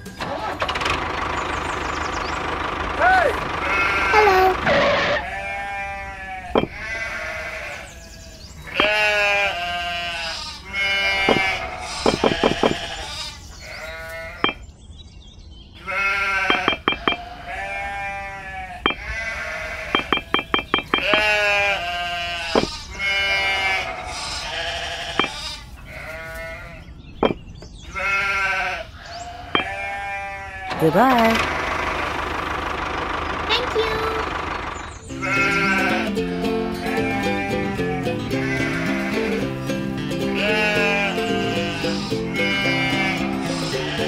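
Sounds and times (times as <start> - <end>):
farm animals bleating: 3.0 - 14.7, 15.8 - 31.7, 35.1 - 44.0.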